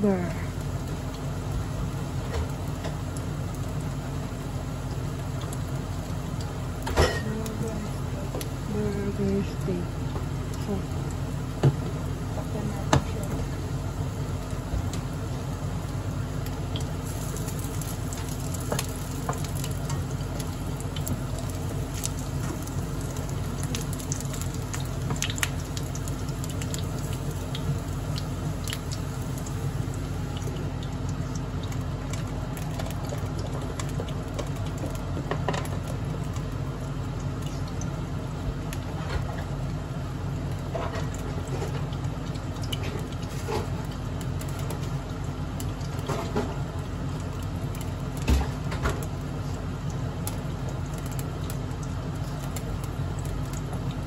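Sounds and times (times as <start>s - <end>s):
patties sizzling in a frying pan: 0.0s - 54.0s
spattering fat crackles: 0.0s - 54.0s
steady low hum: 0.0s - 54.0s.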